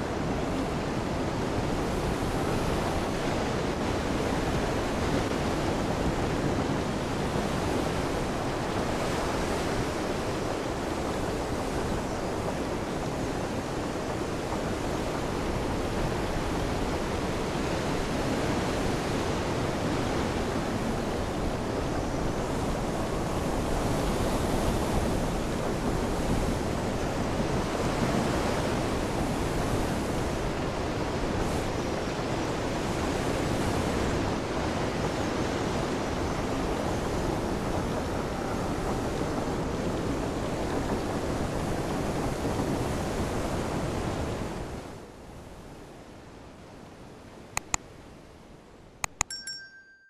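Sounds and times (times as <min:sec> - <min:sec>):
ocean waves: 0:00.0 - 0:50.0
wind: 0:00.0 - 0:50.0.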